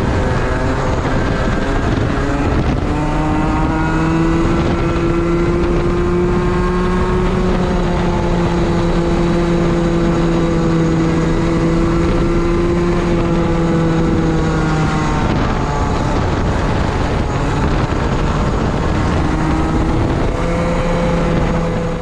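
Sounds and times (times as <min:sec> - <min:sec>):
kart engine revving: 0:00.0 - 0:22.0
rushing air and track noise: 0:00.0 - 0:22.0.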